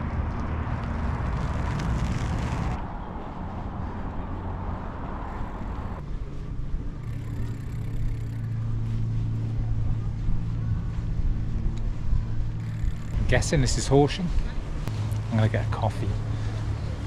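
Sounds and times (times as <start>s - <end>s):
bicycle tyres rolling on path: 0.0s - 17.0s
wind rumbling on microphone: 0.0s - 17.0s.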